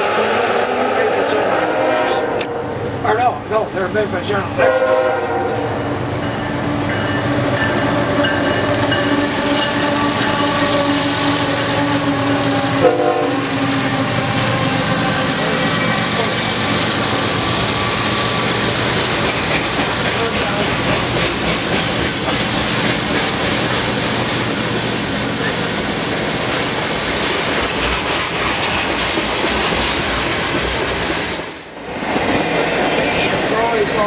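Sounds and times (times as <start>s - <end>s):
freight train rolling past: 0.0s - 34.0s
wheels clacking on rails: 5.7s - 34.0s.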